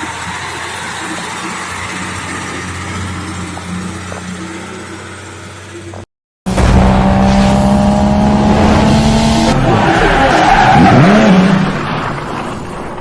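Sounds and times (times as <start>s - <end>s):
loud engine: 0.0s - 12.3s.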